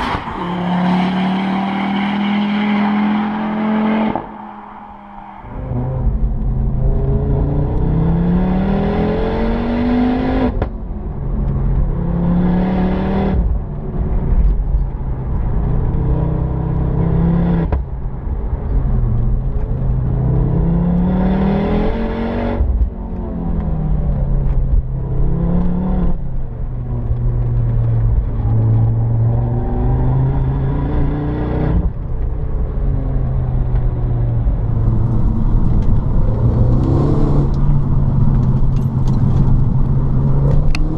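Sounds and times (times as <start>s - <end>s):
car engine accelerating: 0.0s - 17.8s, 18.5s - 40.9s.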